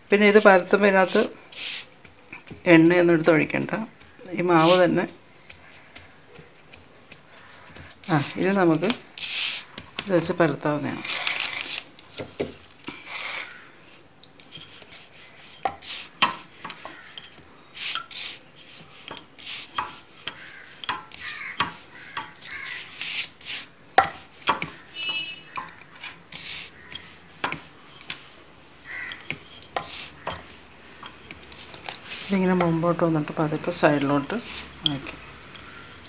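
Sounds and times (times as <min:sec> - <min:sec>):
rolling pin rubbing dough: 0:00.1 - 0:12.4, 0:14.4 - 0:36.0.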